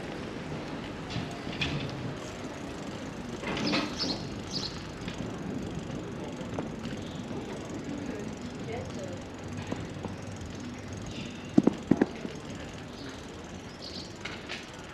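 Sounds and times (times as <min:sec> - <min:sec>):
busy promenade background noise: 0:00.0 - 0:14.9
sharp clicks and clatters: 0:01.0 - 0:14.9.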